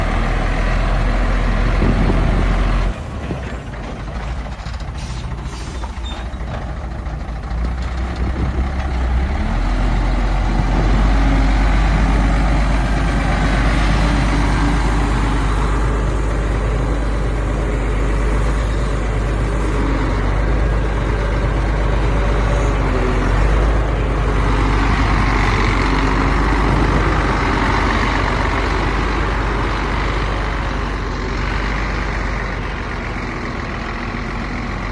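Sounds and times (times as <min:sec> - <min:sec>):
diesel machinery rumbling: 0:00.0 - 0:34.9.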